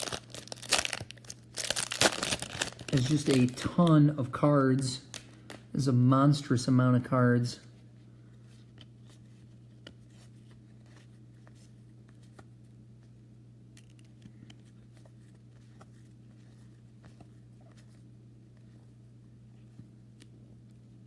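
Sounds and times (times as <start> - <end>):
trading cards being handled: 0.0 - 5.8, 8.3 - 21.0
steady low hum: 0.0 - 21.0.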